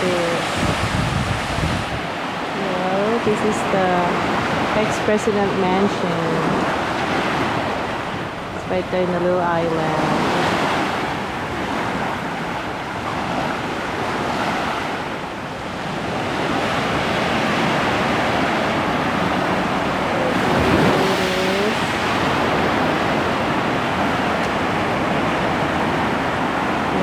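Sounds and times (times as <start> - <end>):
ocean surf breaking: 0.0 - 27.0.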